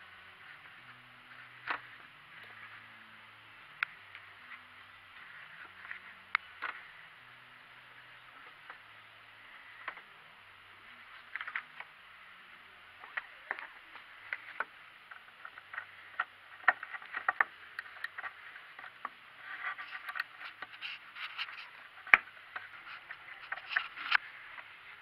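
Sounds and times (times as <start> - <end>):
steady faint hiss: 0.0 - 25.0.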